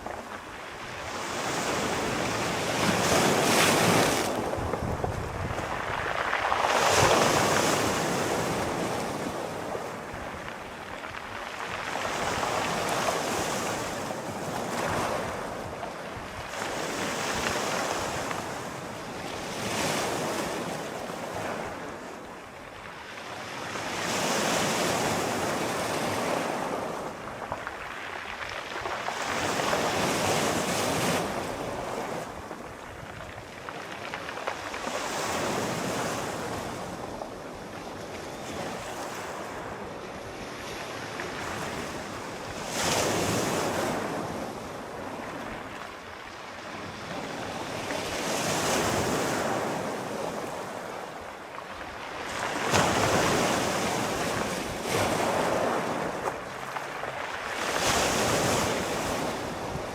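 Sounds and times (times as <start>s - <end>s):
sea waves breaking on shore: 0.0s - 59.9s
wind: 0.0s - 59.9s.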